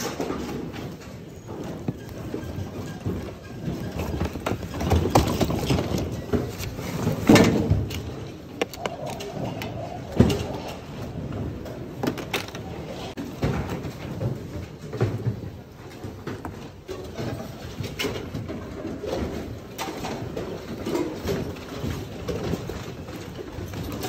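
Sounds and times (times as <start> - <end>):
items rustling and clattering: 0.0 - 24.0.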